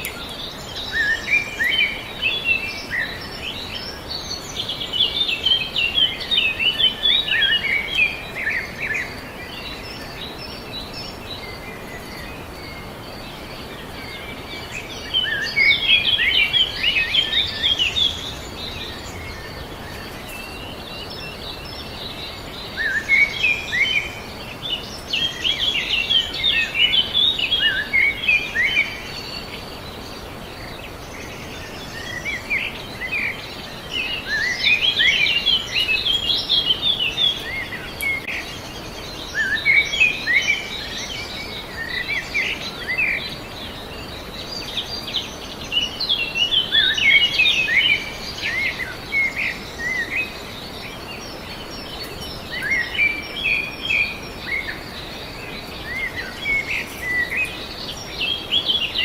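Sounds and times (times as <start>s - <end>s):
background hiss: 0.0s - 59.0s
songbird chirping: 0.0s - 59.0s.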